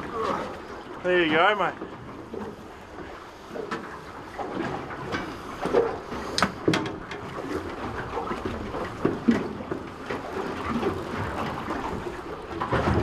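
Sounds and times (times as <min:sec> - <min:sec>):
water slapping boat hull: 0:00.0 - 0:13.0.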